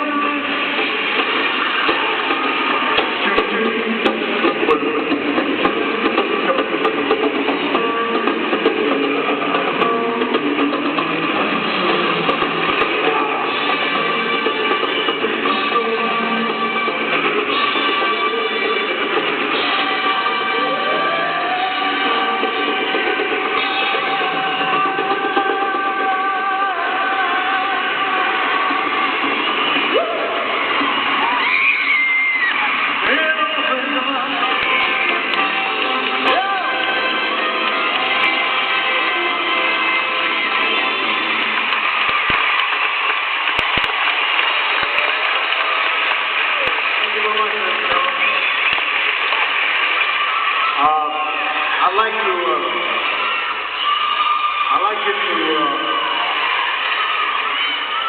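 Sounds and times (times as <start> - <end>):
crowd cheering: 0.0 - 58.0
muffled live rock band: 0.0 - 58.0.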